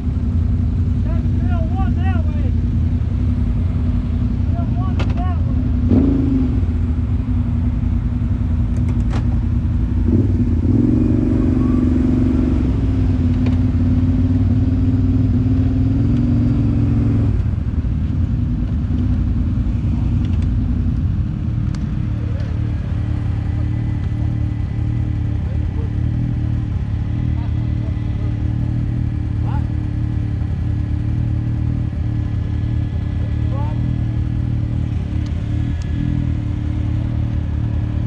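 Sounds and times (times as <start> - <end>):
higher engine tone: 0.0 - 38.0
motorcycle engine and wind rumble: 0.0 - 38.0.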